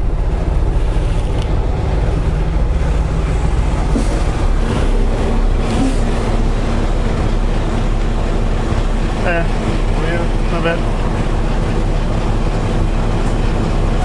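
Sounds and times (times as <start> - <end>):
diesel truck engine rumble: 0.0 - 14.0.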